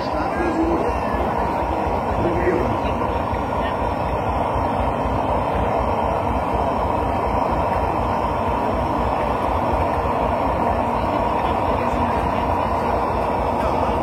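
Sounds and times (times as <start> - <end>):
blowlamp roaring: 0.0 - 14.0.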